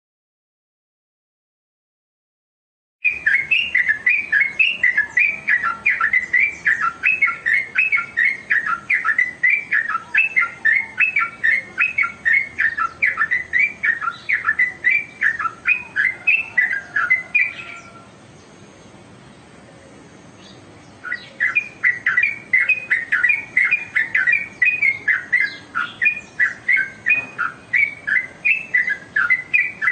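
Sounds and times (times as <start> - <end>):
bird chattering song: 3.0 - 29.9.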